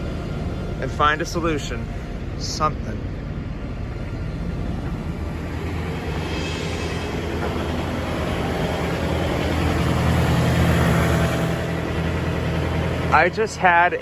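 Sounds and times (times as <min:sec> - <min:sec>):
heavy engine rumbling: 0:00.0 - 0:14.0.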